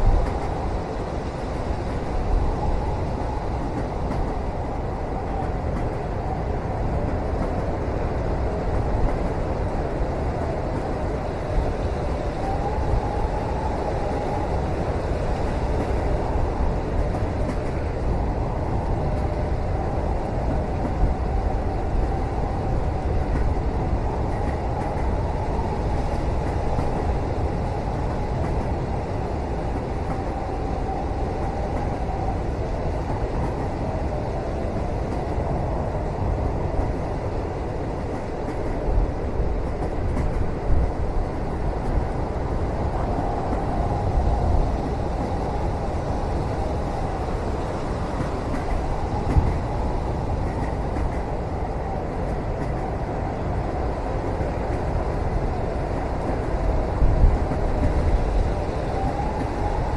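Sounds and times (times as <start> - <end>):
train carriage rumbling on rails: 0.0 - 59.9.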